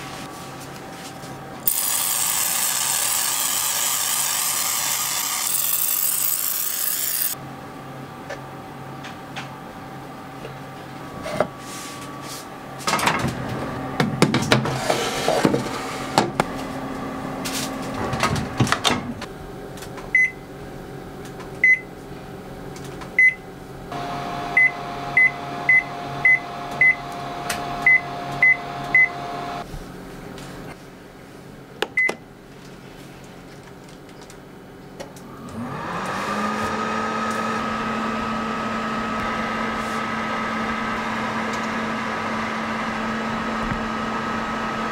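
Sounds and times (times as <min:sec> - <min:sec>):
oven humming: 0:00.0 - 0:30.8, 0:34.5 - 0:44.9.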